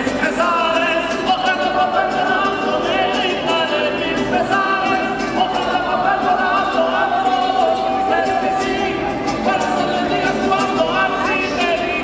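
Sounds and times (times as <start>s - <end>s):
choir singing held notes: 1.6s - 11.3s.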